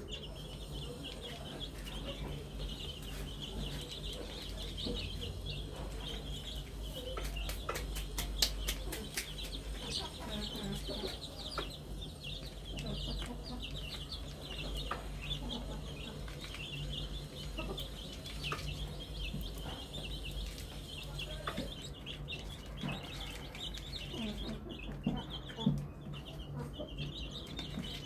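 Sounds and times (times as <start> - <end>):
chicks peeping: 0.0 - 28.0
hen clucking: 0.0 - 28.0.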